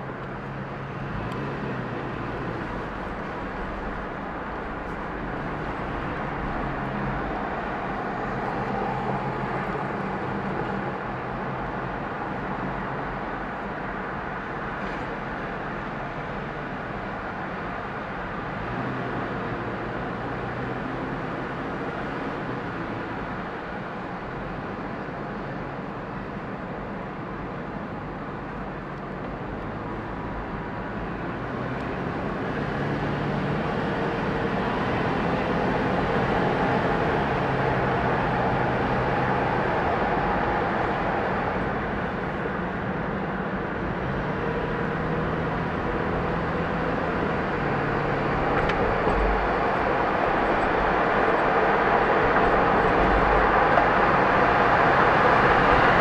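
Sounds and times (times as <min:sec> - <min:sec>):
low engine hum: 0:00.0 - 0:56.0
tyre and road noise: 0:00.0 - 0:56.0.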